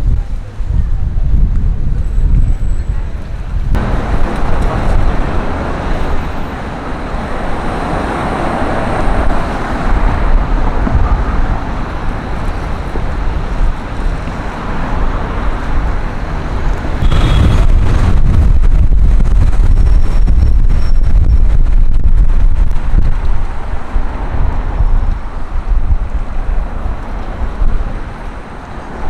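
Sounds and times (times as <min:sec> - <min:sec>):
wind rumble on microphone: 0:00.0 - 0:29.0
passing road traffic: 0:02.7 - 0:29.0.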